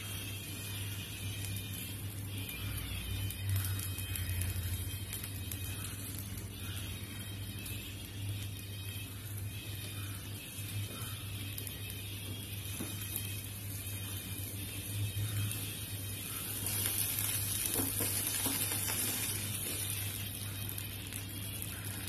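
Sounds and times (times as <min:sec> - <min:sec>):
batter sizzling on hot pan: 0:00.0 - 0:22.0.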